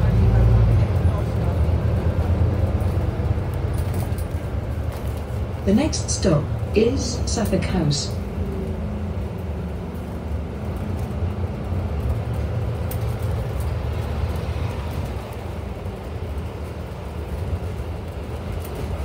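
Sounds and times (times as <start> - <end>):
bus engine rumble: 0.0 - 19.0
road noise: 0.0 - 19.0.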